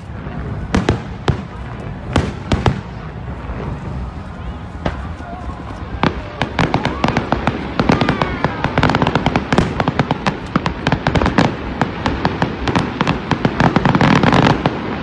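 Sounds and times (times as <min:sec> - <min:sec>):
fireworks banging and crackling: 0:00.0 - 0:15.0.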